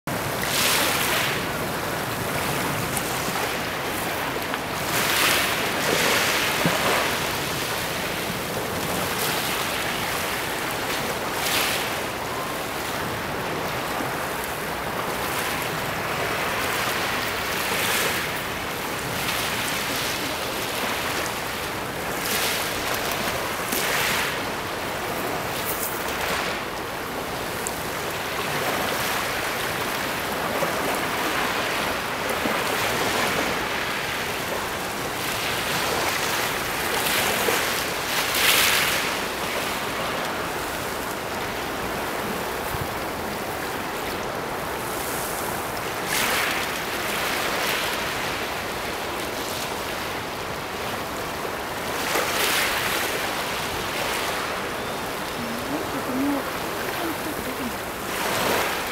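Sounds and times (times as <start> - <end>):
sea waves washing against rocks: 0.1 - 58.9.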